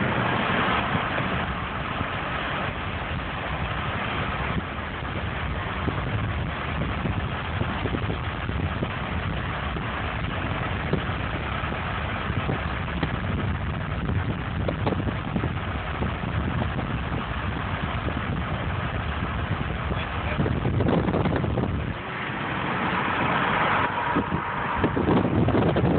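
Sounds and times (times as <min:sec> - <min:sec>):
car engine and tyre rumble: 0:00.0 - 0:25.9.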